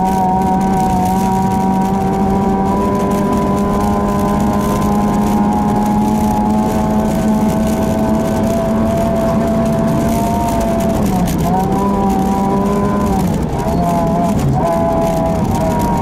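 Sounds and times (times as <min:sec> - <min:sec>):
rally car engine at high revs: 0:00.0 - 0:16.0
tyre and road noise: 0:00.0 - 0:16.0.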